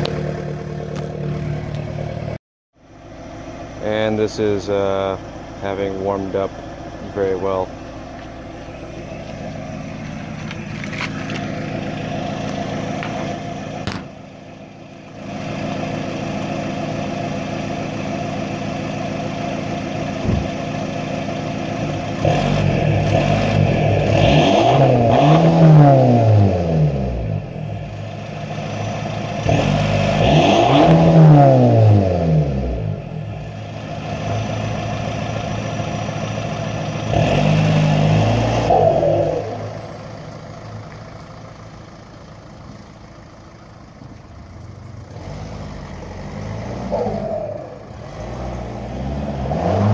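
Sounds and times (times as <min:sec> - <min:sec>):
car pulling away: 0:00.0 - 0:49.9
diesel engine idling and revving: 0:00.0 - 0:49.9.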